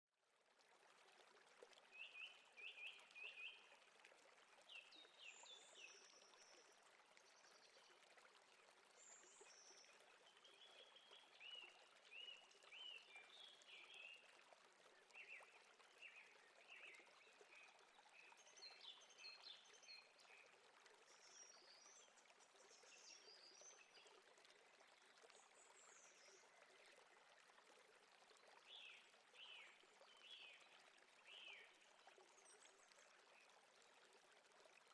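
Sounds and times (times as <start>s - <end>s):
stream running water: 0.2s - 34.9s.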